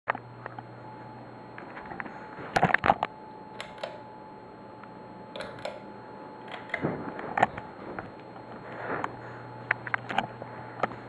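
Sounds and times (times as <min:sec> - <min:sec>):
ceiling fan humming: 0:00.1 - 0:11.0.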